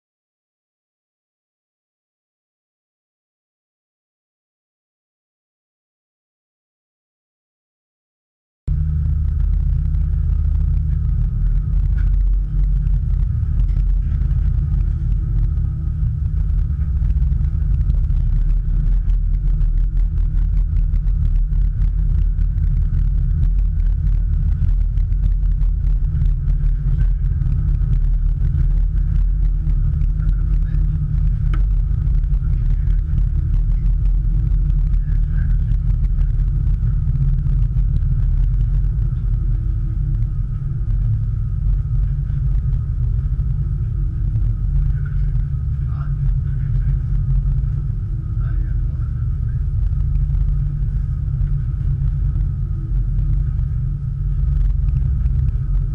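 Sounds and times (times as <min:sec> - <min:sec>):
boat engines low rumble: 0:08.7 - 0:55.9.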